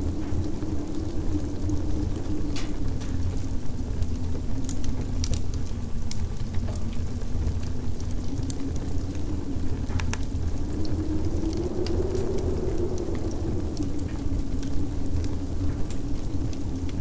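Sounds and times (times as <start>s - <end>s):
wind howling: 0.0s - 17.0s.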